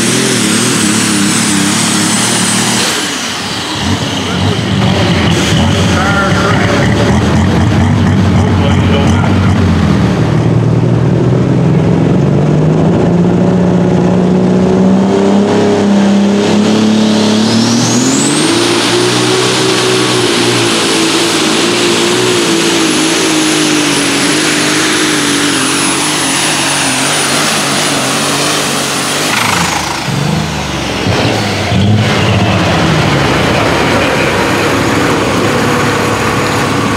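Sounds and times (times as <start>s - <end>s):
diesel tractor engine at full power: 0.0s - 36.9s.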